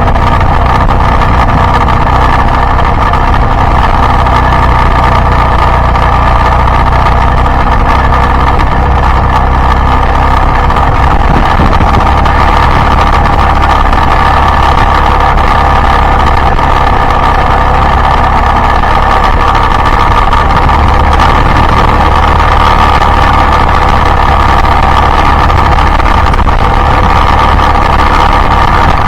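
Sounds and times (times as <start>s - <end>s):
motorcycle engine running: 0.0s - 29.0s
road noise: 0.0s - 29.0s.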